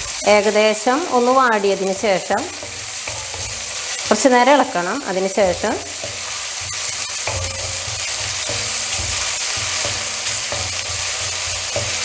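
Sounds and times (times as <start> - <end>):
garlic sizzling in hot oil: 0.0 - 12.0
stirring rubbing in wok: 0.0 - 12.0.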